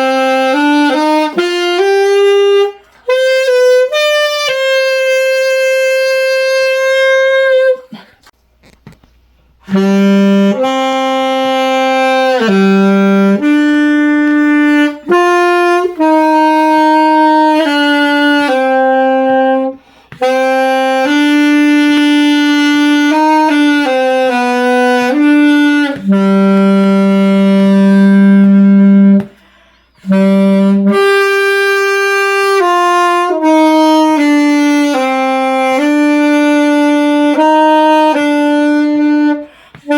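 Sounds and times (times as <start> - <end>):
solo wind instrument melody: 0.0 - 7.9, 9.6 - 39.9.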